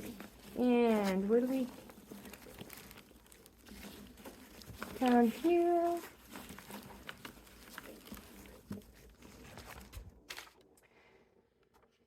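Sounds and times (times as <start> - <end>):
rustling packing peanuts and paper: 0.0 - 10.8.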